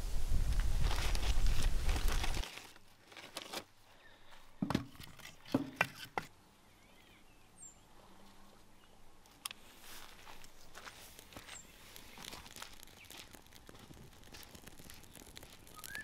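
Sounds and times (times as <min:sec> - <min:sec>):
quiet outdoor background: 0:00.0 - 0:16.0.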